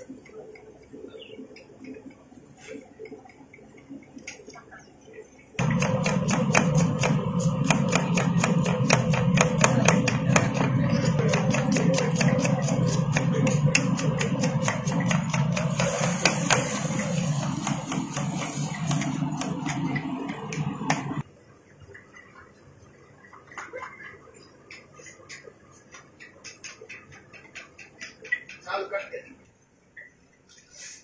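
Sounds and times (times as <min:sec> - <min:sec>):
steady low hum: 0:00.0 - 0:26.2.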